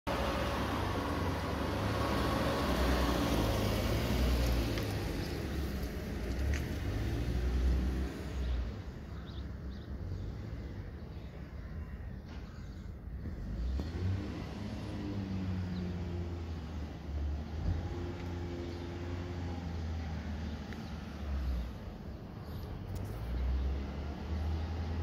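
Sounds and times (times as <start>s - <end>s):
vehicle engine rumbling: 0.1s - 25.0s.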